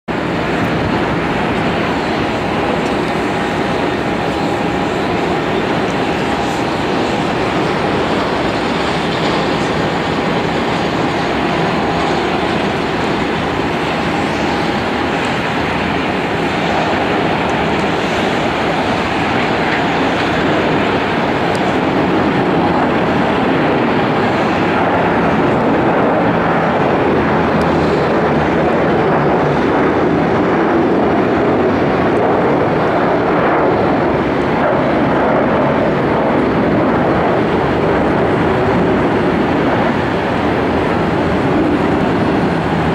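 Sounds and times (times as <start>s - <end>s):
jet engines at takeoff thrust: 0.0s - 42.9s.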